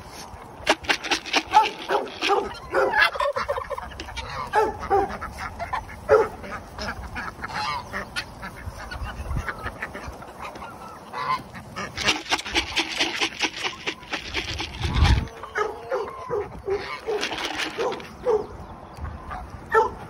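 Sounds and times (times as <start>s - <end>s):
geese and ducks calling: 0.0s - 20.0s.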